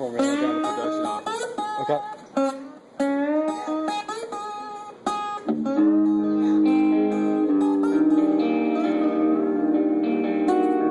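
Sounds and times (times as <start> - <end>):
guitar notes and strummed chords: 0.0 - 10.9.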